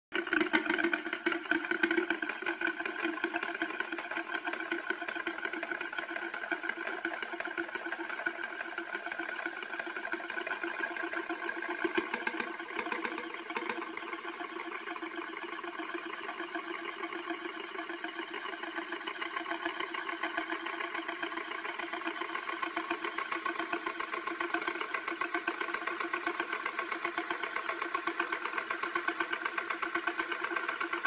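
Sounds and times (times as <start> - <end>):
spinning steel disk whirring rattle: 0.1 - 31.0.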